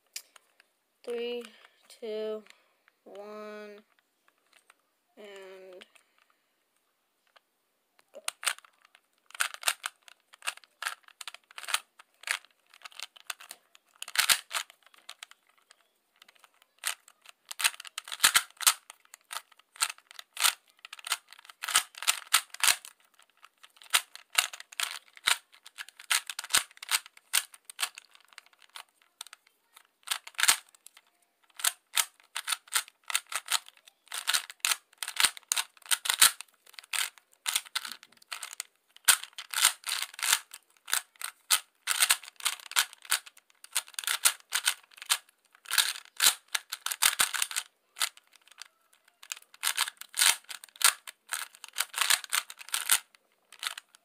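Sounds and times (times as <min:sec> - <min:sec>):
puzzle cube plastic clacking: 0:03.8 - 0:06.4, 0:07.2 - 0:54.0.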